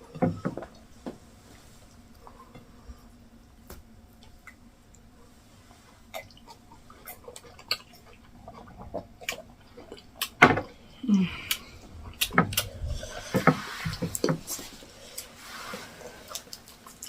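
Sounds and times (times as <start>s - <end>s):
person chewing food: 1.5s - 17.0s.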